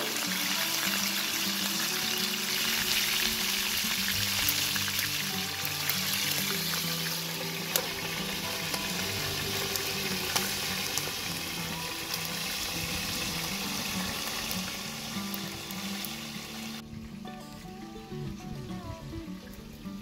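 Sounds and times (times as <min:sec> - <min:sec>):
chicken sizzling in oil: 0:00.0 - 0:16.8.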